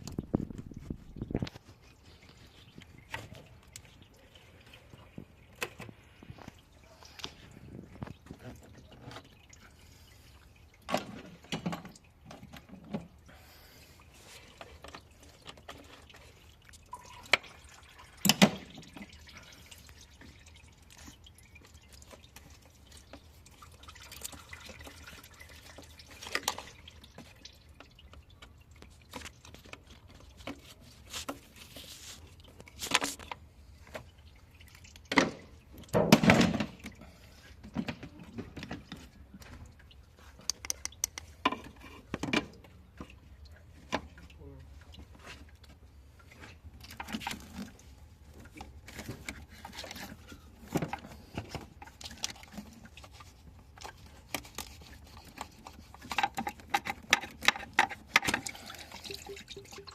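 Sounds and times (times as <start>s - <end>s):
liquid dripping: 0.0s - 36.0s, 36.8s - 41.9s, 51.5s - 59.9s.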